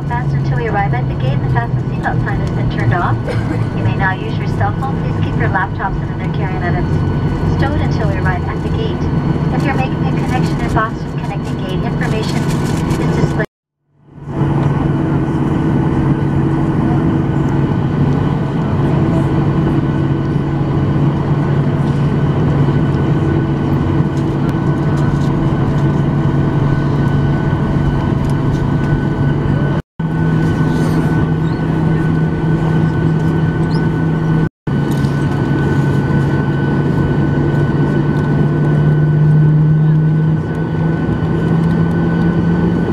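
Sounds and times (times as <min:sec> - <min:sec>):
jet engines idling: 0:00.0 - 0:42.9.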